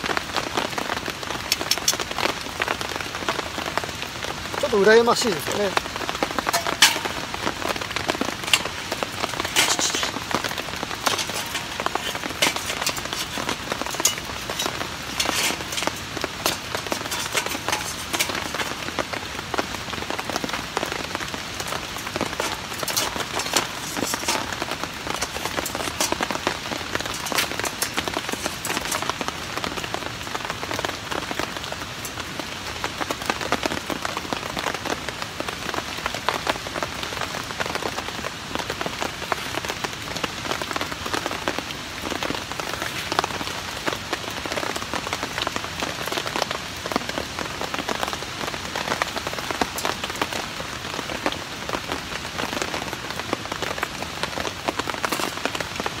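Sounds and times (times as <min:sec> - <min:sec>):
wood fire crackling: 0:00.0 - 0:34.8, 0:38.8 - 0:56.0
rain on a tarp: 0:00.0 - 0:56.0.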